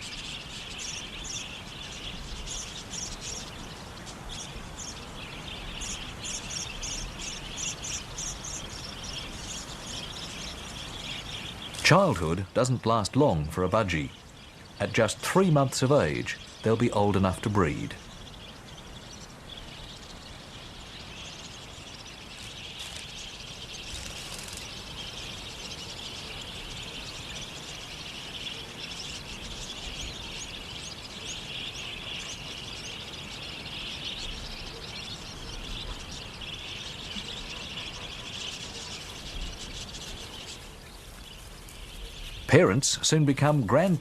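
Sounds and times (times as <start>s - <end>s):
budgerigars chattering: 0.0s - 44.0s.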